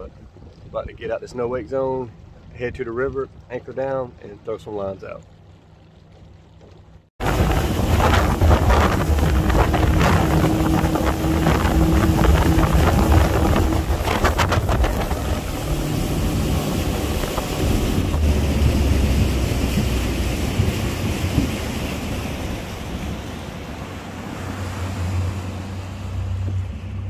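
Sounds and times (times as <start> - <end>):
wind buffeting microphone: 0.0 - 4.2, 7.2 - 27.0
motorboat motor drone: 2.0 - 27.0.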